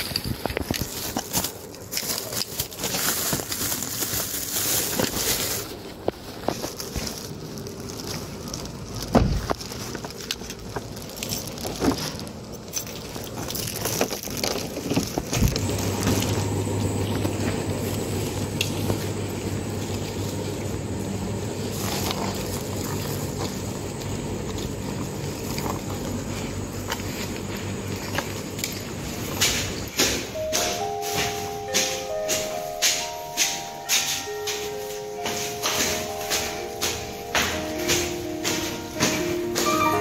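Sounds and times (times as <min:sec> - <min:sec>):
steady low hum: 0:00.0 - 0:39.6
plastic bags rustling: 0:00.0 - 0:40.0.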